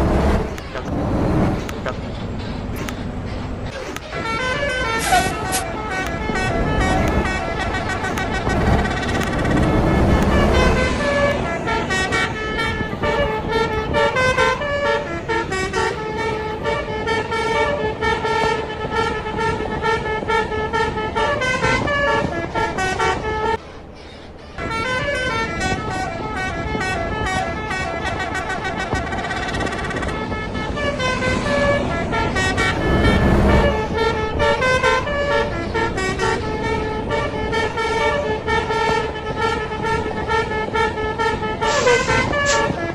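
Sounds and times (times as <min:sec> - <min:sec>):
bus engine: 0:00.0 - 0:42.9
musical air horn melody: 0:04.0 - 0:23.6, 0:24.6 - 0:42.9.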